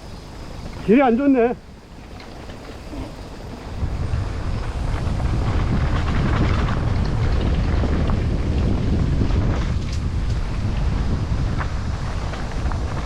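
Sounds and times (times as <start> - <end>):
wind buffeting microphone: 0.0 - 13.0
bike chain rattling and clicking: 0.6 - 13.0.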